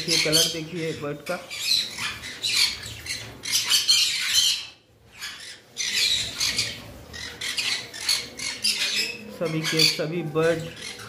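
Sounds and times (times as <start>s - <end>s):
parrots squawking: 0.0s - 11.0s.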